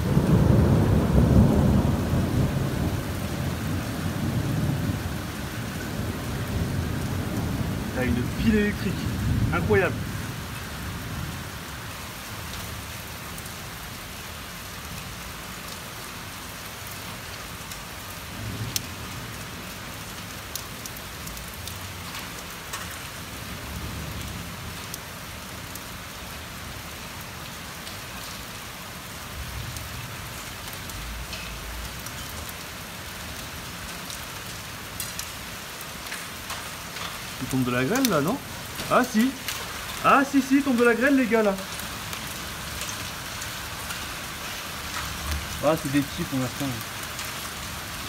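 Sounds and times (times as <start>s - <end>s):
hailstones ticking: 0.0s - 48.0s
heavy rain falling: 0.0s - 48.0s.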